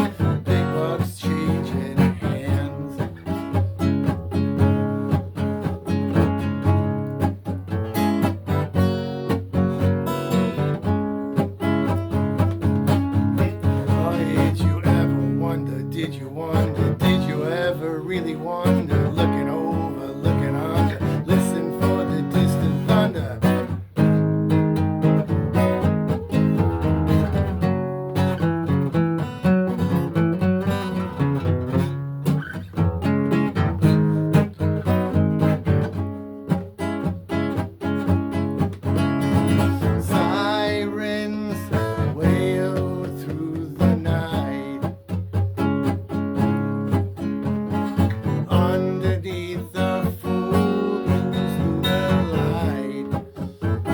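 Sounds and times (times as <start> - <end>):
acoustic guitar music: 0.0 - 53.9.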